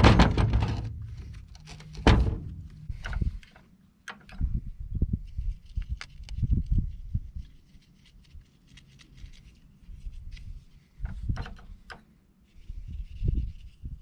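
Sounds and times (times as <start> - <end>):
plastic pipe fittings being handled: 0.0 - 4.6, 5.2 - 13.8.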